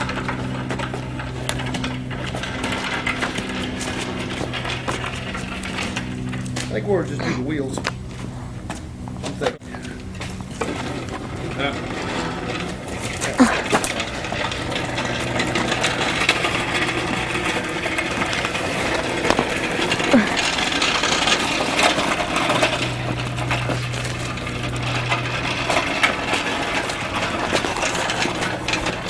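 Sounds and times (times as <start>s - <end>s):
small motor humming: 0.0s - 29.0s.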